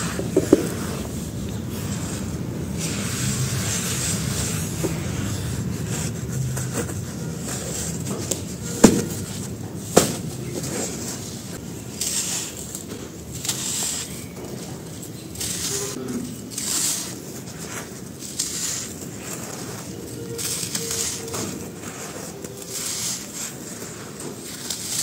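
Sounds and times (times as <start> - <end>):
gritty powder rustling and scraping: 0.0 - 25.0.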